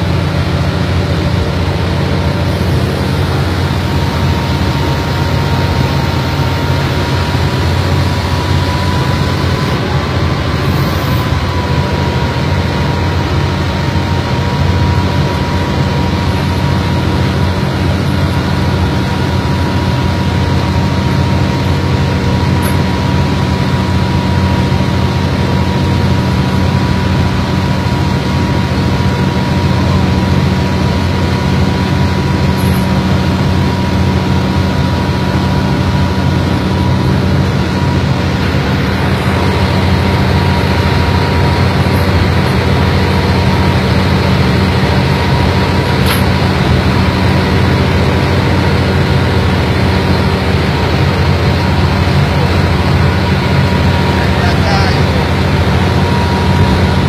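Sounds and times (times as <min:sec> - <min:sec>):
boat engine drone: 0:00.0 - 0:57.0
engine whine: 0:00.0 - 0:57.0.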